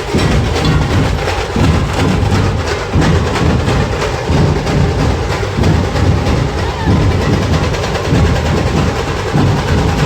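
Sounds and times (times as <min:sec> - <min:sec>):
procession band drumming: 0:00.0 - 0:10.0.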